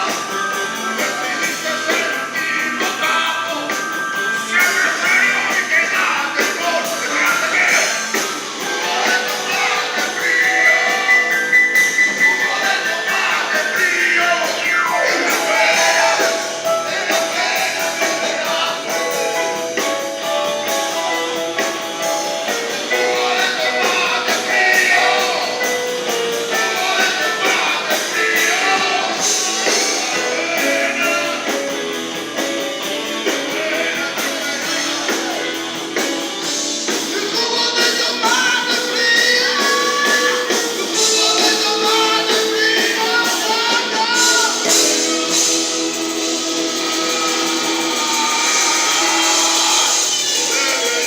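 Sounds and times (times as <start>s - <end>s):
blues-rock band playing: 0.0s - 51.0s
melodic lead lines: 0.0s - 51.0s.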